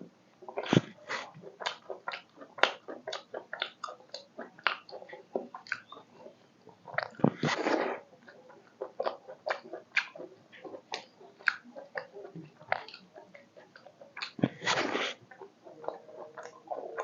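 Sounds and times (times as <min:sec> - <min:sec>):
person chewing food: 0:00.4 - 0:17.0.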